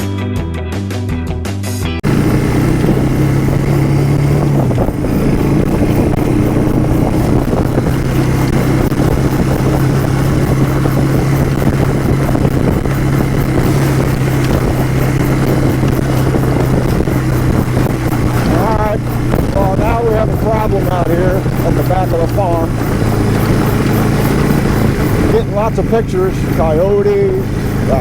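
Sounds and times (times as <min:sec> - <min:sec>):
vehicle engine running: 0:02.0 - 0:28.0.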